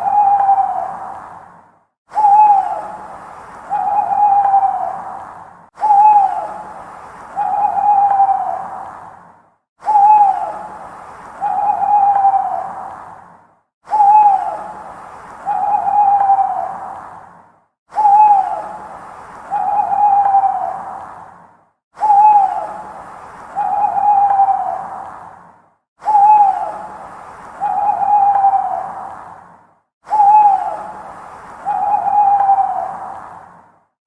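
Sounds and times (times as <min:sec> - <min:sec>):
owl hooting: 0:00.0 - 0:01.4, 0:02.1 - 0:09.0, 0:09.8 - 0:13.0, 0:13.9 - 0:17.0, 0:17.9 - 0:21.2, 0:22.0 - 0:25.2, 0:26.0 - 0:29.2, 0:30.1 - 0:33.2.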